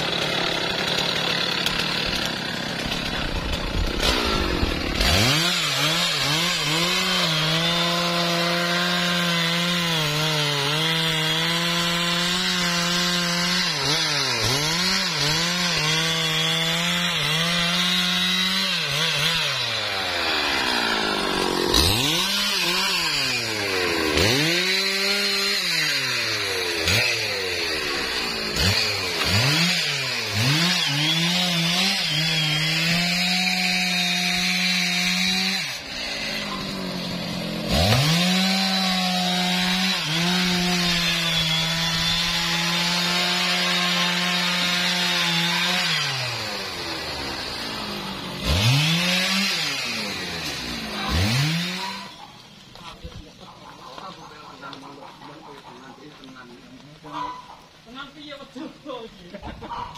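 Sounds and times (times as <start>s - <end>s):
chainsaw cutting log: 0.0s - 58.6s.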